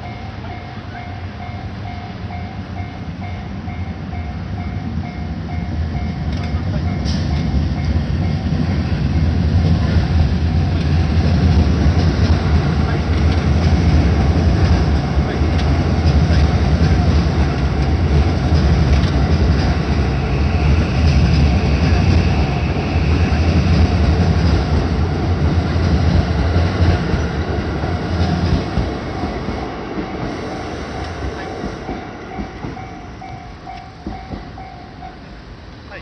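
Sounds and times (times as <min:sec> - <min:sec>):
crossing warning bell ringing: 0:00.0 - 0:25.4, 0:26.2 - 0:35.7
electric train passing: 0:00.0 - 0:36.0.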